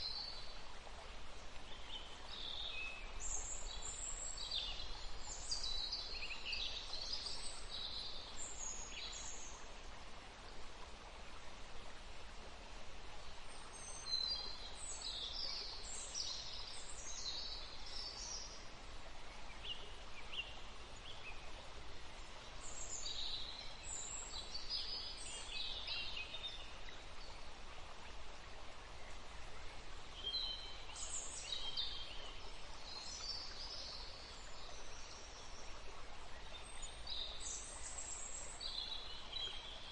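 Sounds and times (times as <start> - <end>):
songbirds chirping: 0.0 - 39.9
stream flowing: 0.0 - 39.9.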